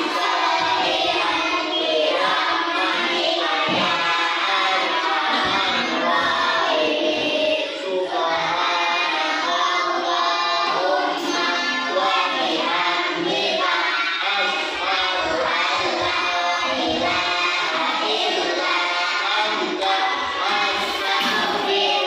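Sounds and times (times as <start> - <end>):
children chanting a prayer: 0.0 - 22.0.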